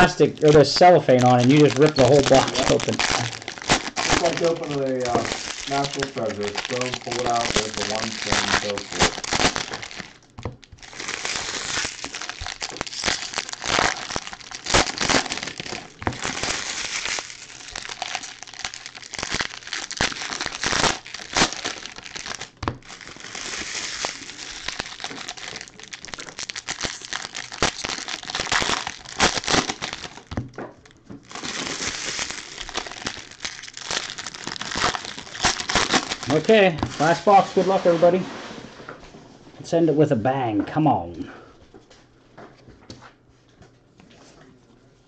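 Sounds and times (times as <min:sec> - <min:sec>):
foil wrappers ripping and crumpling: 0:00.0 - 0:38.2.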